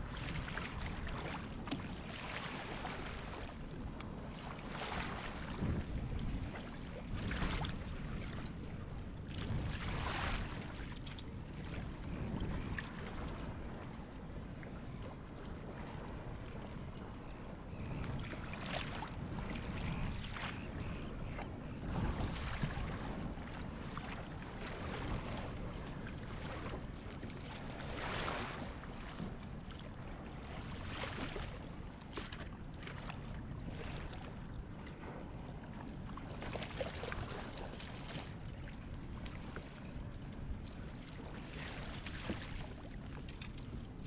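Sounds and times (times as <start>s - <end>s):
water sloshing around a kayak: 0.0s - 44.0s
wind rumbling on microphone: 0.0s - 44.0s.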